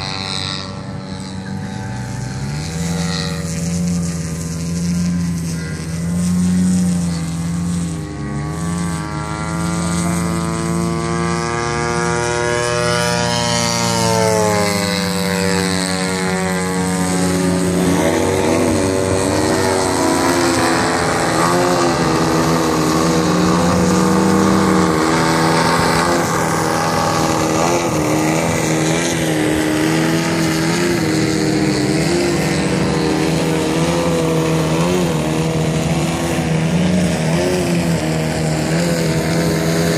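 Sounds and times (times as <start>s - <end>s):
model airplane engine and propeller: 0.0s - 39.9s.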